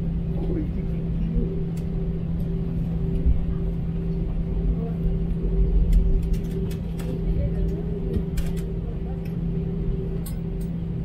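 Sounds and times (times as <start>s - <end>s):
jet engine hum: 0.0s - 11.0s
low rumble of rolling plane: 0.0s - 11.0s.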